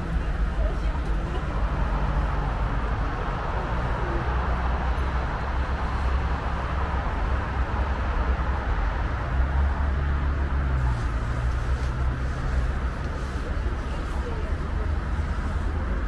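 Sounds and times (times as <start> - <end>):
car traffic going by: 0.0 - 16.0.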